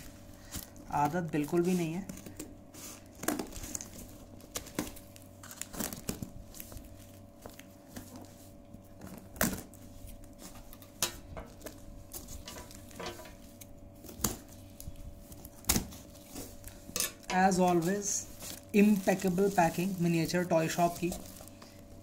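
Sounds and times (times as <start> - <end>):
cardboard and tape rustling: 0.0 - 22.0.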